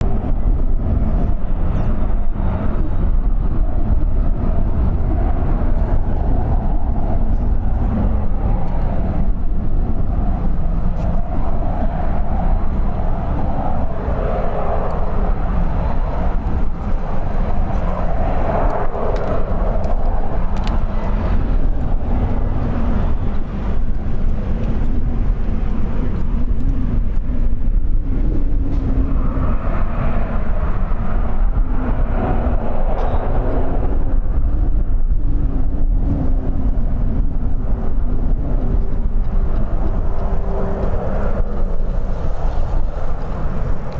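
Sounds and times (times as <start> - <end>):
jet engine rumble: 0.0 - 43.9.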